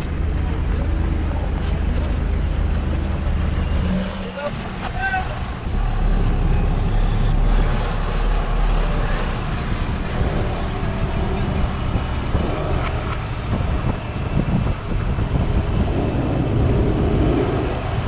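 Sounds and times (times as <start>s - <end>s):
diesel engines droning under load: 0.0s - 18.0s.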